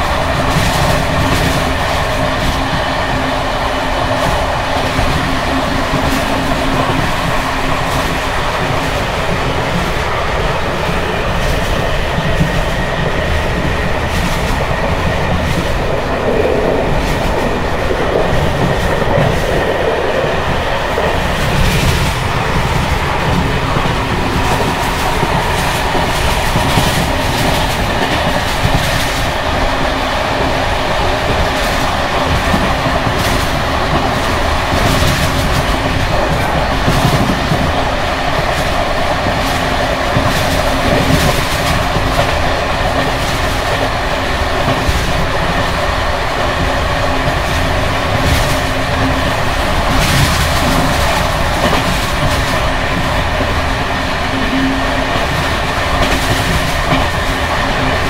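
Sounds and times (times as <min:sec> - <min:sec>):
train coach rattling: 0:00.0 - 0:58.0
wheels clacking over rail joints: 0:00.0 - 0:58.0.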